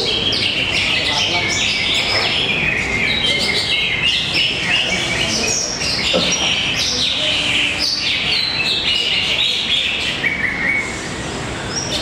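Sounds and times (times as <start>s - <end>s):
caged birds singing: 0.0s - 12.0s.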